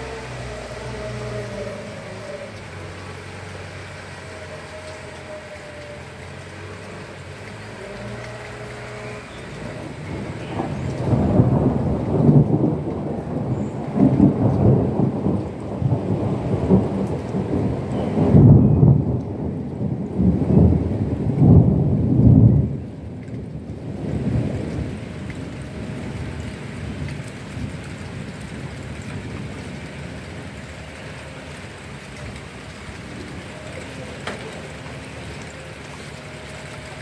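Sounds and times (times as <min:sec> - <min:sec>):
steady rain: 0:00.0 - 0:37.0
thunder rumbling: 0:00.0 - 0:37.0.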